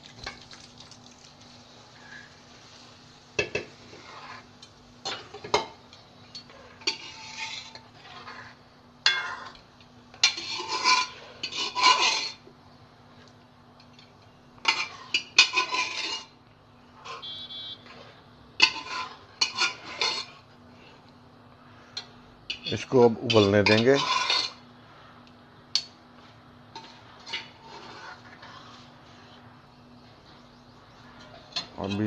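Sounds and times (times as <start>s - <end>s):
spoon stirring and scraping pot: 3.4s - 12.5s, 13.1s - 32.0s.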